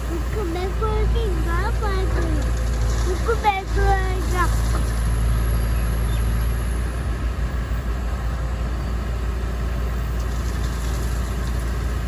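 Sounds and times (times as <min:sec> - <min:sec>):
excavator engine droning: 0:00.0 - 0:12.0.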